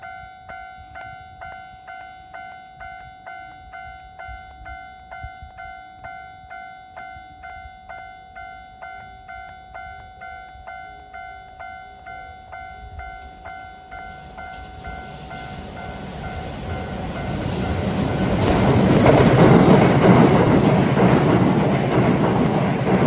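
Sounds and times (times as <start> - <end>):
level crossing warning bell: 0.0 - 23.0.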